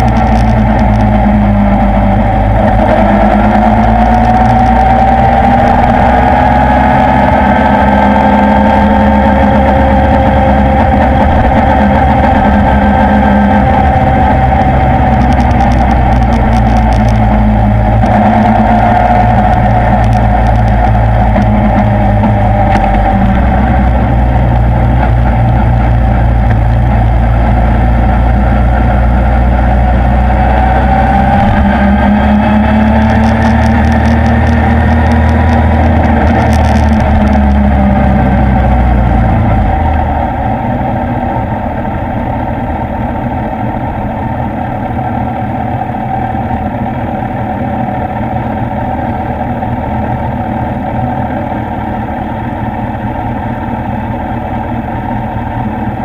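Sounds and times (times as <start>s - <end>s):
motorcycle engine: 0.0s - 56.0s
wind noise: 0.0s - 56.0s.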